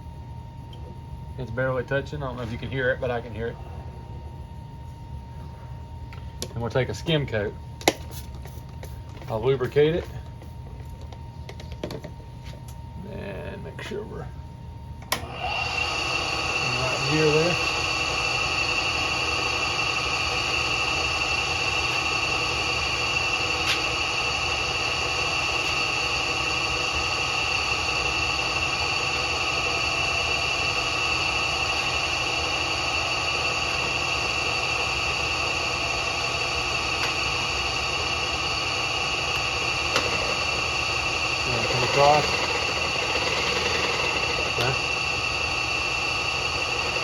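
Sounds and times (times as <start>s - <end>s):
milling machine humming: 8.7s - 47.0s.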